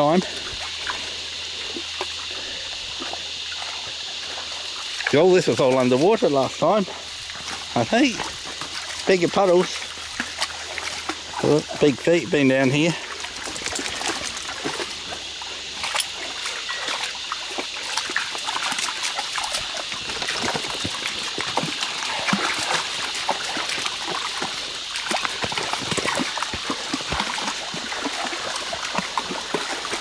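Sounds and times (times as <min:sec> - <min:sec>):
creek water trickling over rocks: 0:00.0 - 0:30.0
small water splashes: 0:00.0 - 0:30.0.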